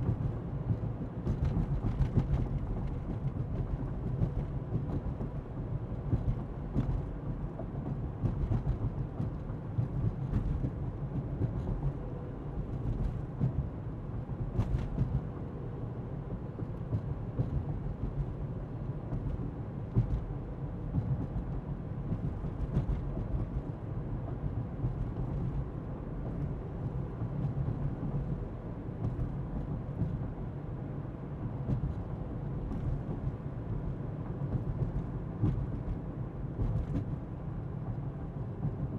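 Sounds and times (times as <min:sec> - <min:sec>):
tyre rumble and engine hum: 0:00.0 - 0:38.9.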